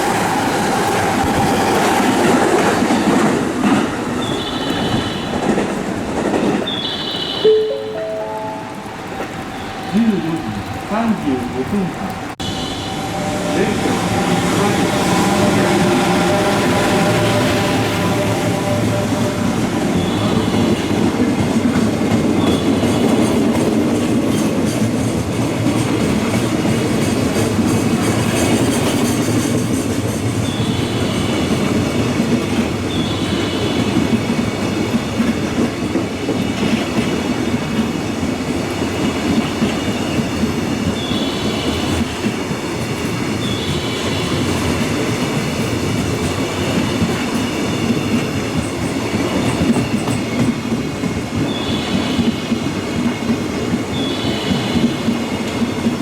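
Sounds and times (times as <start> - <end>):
train wheels clattering over rails: 0.0 - 7.4, 12.9 - 56.0.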